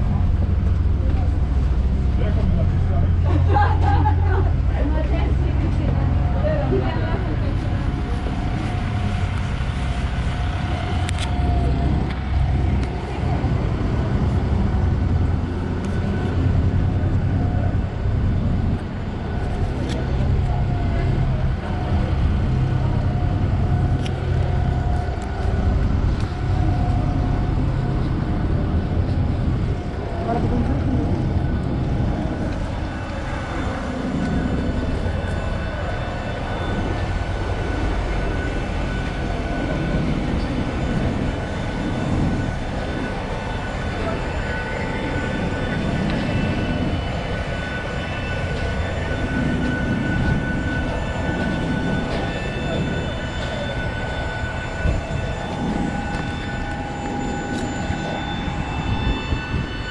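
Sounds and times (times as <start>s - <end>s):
jet low rumble: 0.0s - 59.9s
turbine whine: 0.0s - 59.9s.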